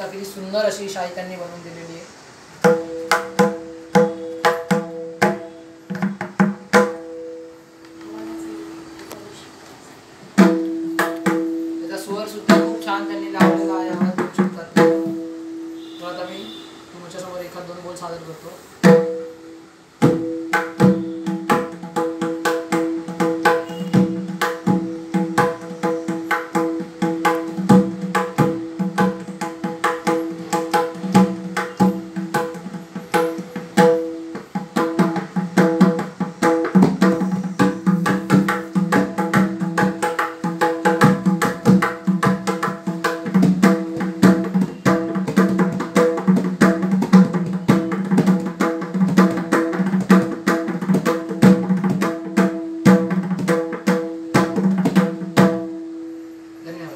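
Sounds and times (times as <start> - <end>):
hand drum played fast: 2.6 - 7.5, 10.4 - 15.6, 18.8 - 55.8.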